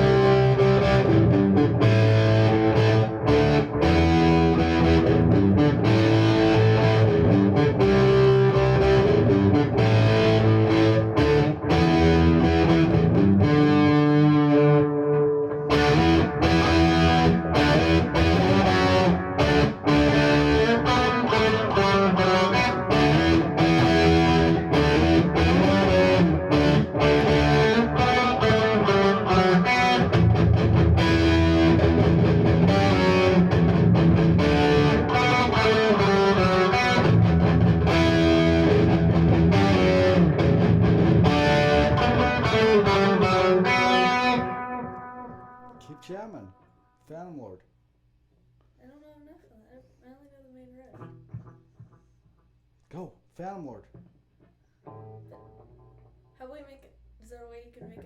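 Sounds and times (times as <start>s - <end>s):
distorted electric guitar riffs: 0.0s - 46.6s.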